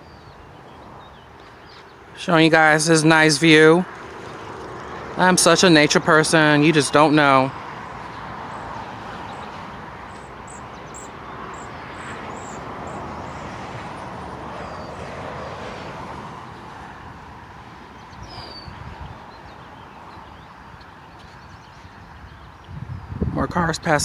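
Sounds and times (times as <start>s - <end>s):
highway traffic rushing: 0.0s - 24.0s.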